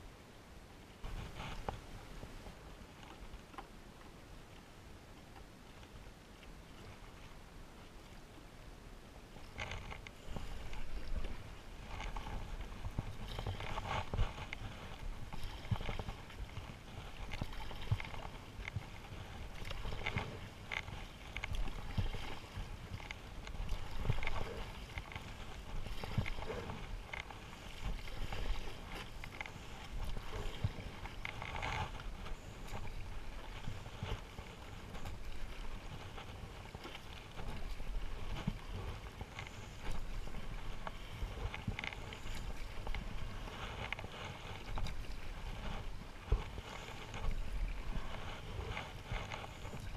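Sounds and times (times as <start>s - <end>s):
paddle splashing through water: 9.3s - 49.9s.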